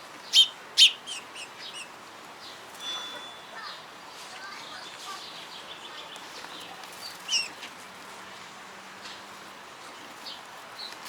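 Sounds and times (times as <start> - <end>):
sparrows chirping: 0.2 - 7.8, 9.0 - 11.0.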